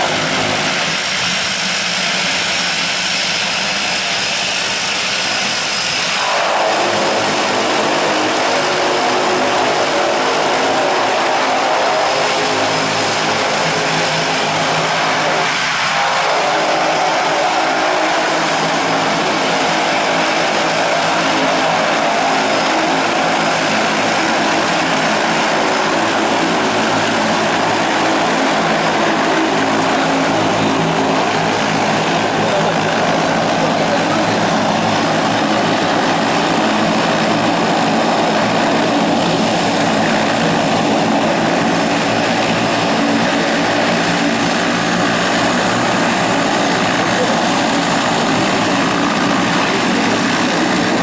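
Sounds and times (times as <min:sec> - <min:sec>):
turboprop engines droning: 0:00.0 - 0:51.0.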